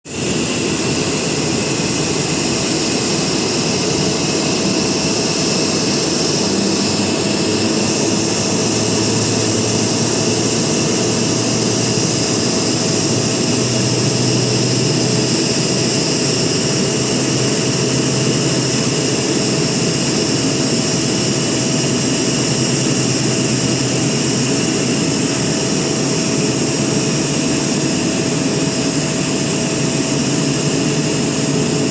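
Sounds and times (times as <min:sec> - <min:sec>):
jet engines running: 0:00.0 - 0:31.9
high engine whine: 0:00.1 - 0:31.9.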